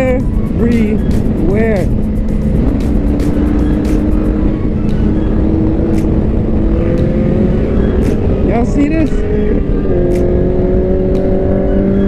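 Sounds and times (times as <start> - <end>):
heavy rushing noise: 0.0 - 12.0
motorcycle engine cruising: 0.0 - 12.0.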